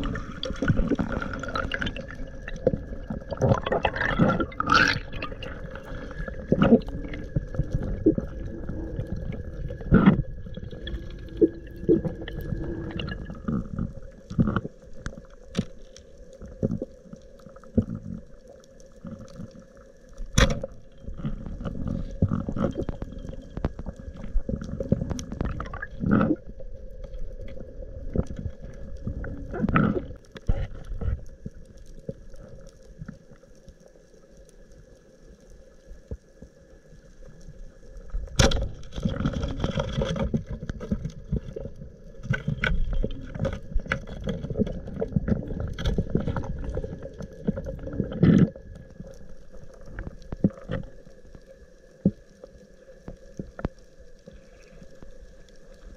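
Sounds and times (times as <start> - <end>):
underwater water movement rumbling: 0.0 - 55.9.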